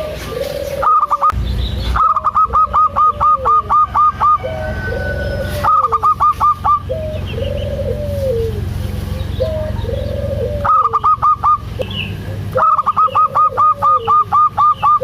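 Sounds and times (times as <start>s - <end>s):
dove cooing: 0.0s - 15.0s
steady low hum: 0.0s - 15.0s.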